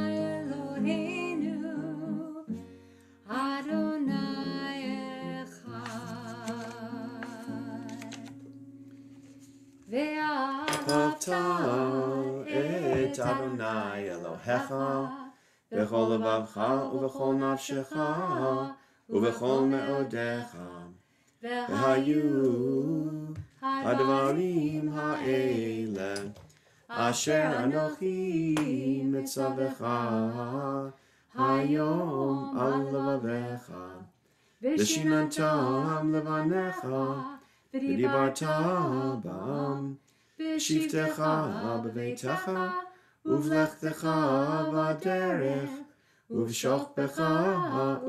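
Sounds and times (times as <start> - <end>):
woman and man singing a prayer: 0.0 - 2.5, 3.4 - 8.3, 10.0 - 48.0.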